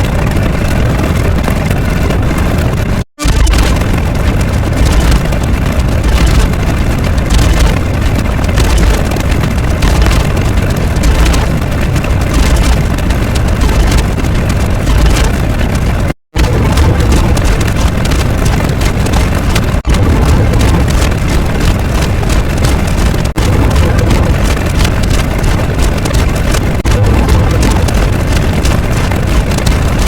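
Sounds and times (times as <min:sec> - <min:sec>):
loud low rumble: 0:00.0 - 0:30.0.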